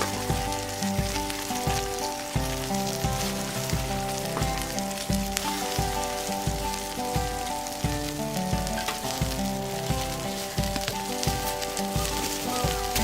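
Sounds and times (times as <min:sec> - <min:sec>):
background music with a beat: 0:00.0 - 0:13.0
food sizzling on a grill: 0:00.0 - 0:13.0.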